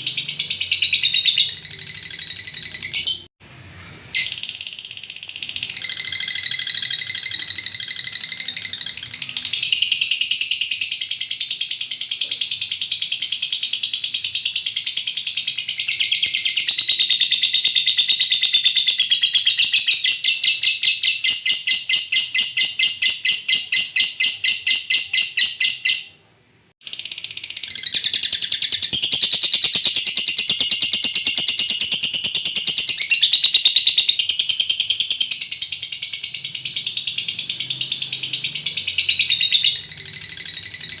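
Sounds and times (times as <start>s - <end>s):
lovebird chattering: 0.0s - 3.3s, 4.2s - 26.2s, 26.8s - 41.0s.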